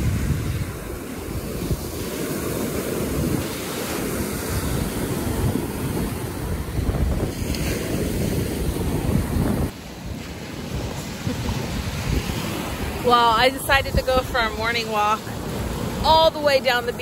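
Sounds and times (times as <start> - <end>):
small waves breaking: 0.0 - 17.0
wind buffeting microphone: 0.0 - 17.0.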